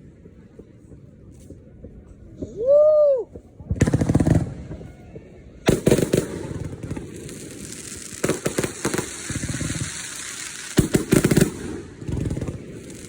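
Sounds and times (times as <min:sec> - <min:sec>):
fireworks crackling pops: 0:00.0 - 0:13.0.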